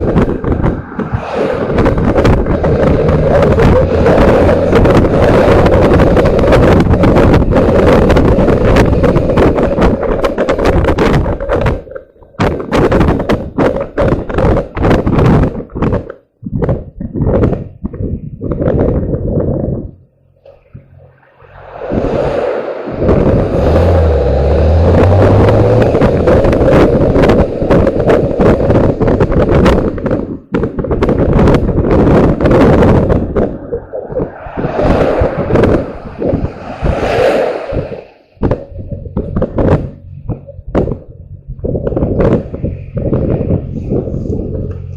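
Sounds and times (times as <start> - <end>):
rumbling wind noise: 0.0 - 44.9.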